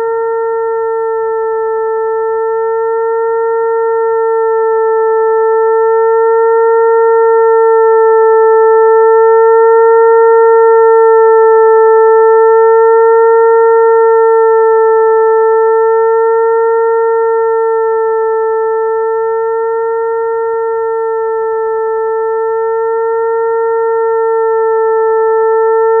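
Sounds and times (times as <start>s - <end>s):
electronic buzzing hum: 0.0s - 26.0s.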